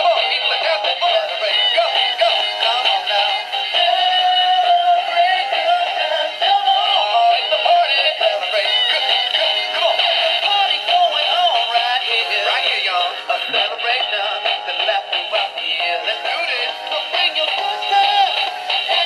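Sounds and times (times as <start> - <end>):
synthesized singing over toy music: 0.0 - 19.0.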